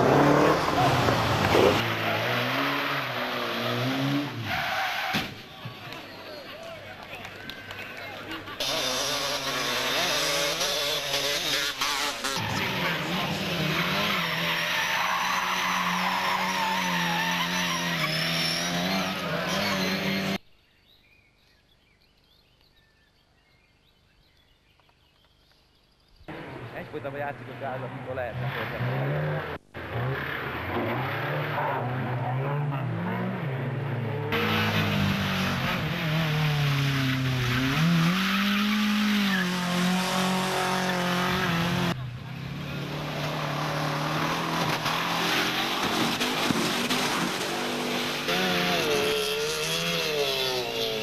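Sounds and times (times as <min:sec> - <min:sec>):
rally car engine revving high: 0:00.0 - 0:04.6, 0:08.5 - 0:20.4, 0:26.3 - 0:51.0
tyres skidding: 0:00.0 - 0:20.4, 0:26.3 - 0:51.0.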